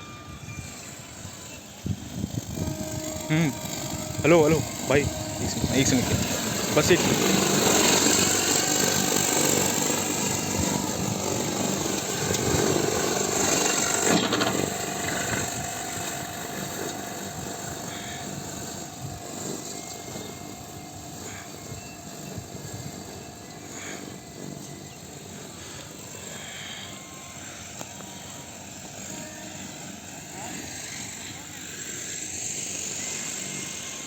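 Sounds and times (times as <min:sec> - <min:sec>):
high hiss: 0:00.0 - 0:34.0
lawn mower running: 0:00.0 - 0:34.0.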